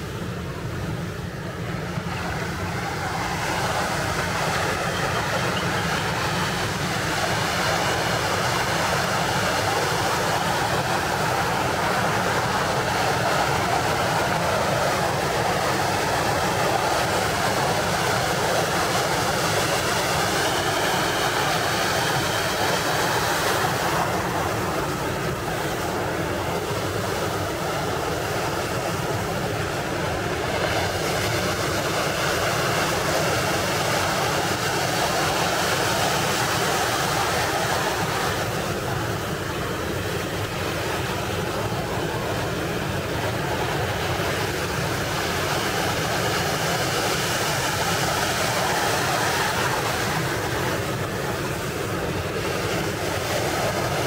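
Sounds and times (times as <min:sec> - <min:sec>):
waves breaking on shore: 0:00.0 - 0:54.0.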